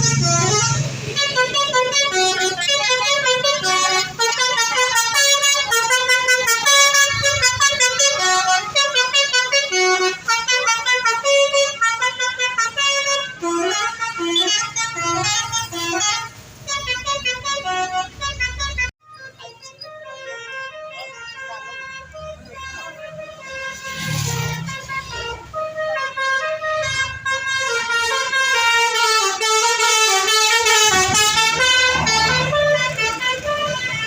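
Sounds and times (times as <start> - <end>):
multi-tone bus horn tune: 0.0 - 34.0.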